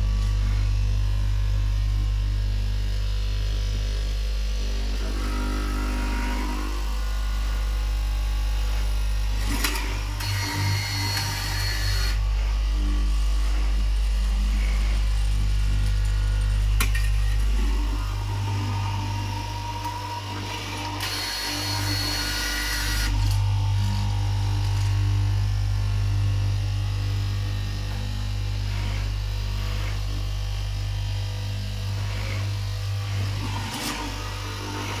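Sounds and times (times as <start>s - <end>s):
cloth-cutting machine humming: 0.0s - 35.0s.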